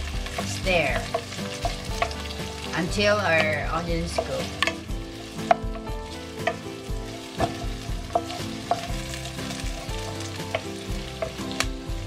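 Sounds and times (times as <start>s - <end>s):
faint background music: 0.0s - 12.0s
ginger and onion sizzling in oil: 0.0s - 12.0s
wooden spoon knocking on pan: 0.3s - 11.8s.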